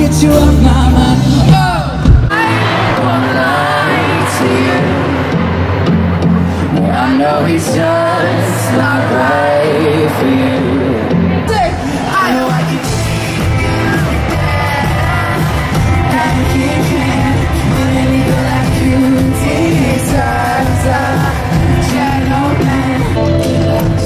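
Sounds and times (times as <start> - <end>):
man singing into a microphone: 0.0 - 5.5, 6.6 - 24.0
live band with electric guitar: 0.0 - 24.0.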